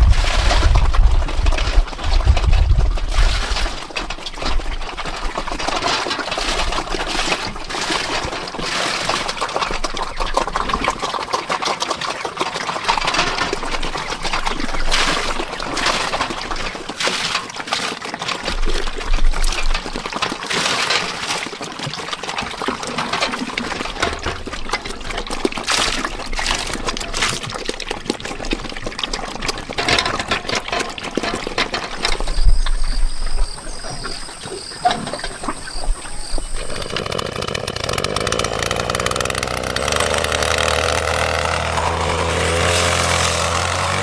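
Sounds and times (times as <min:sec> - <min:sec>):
water splashing and pouring: 0:00.0 - 0:44.0.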